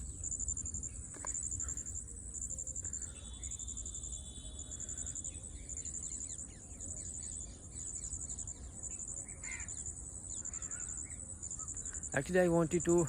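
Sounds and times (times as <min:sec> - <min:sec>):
insects trilling: 0:00.0 - 0:13.0
small birds chirping: 0:00.0 - 0:13.0.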